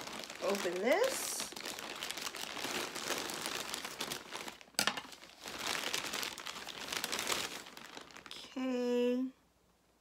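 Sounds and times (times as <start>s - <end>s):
plastic mailer crinkling: 0.0s - 8.6s.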